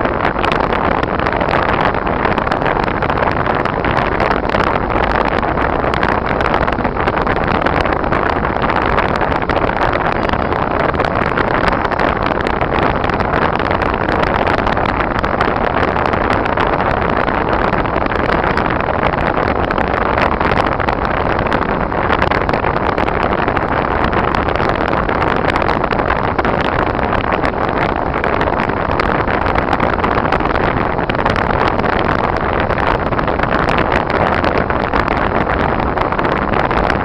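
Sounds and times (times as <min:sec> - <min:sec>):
car engine and tyre noise: 0:00.0 - 0:37.0.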